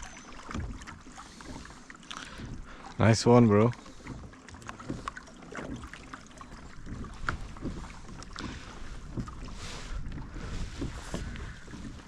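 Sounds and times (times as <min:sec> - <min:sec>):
gear knocking against kayak: 0:00.0 - 0:03.0, 0:03.8 - 0:12.0
faint water: 0:00.0 - 0:12.0.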